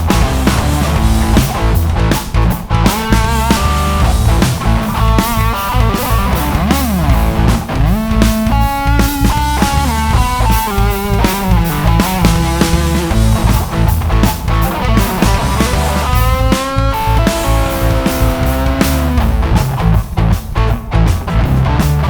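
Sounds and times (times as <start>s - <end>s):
bass and drums: 0.0s - 22.0s
electric guitar lead: 0.0s - 22.0s.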